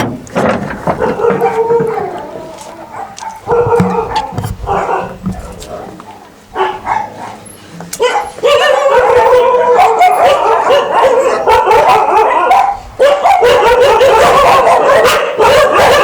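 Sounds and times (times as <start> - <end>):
dogs barking and howling: 0.4 - 16.0.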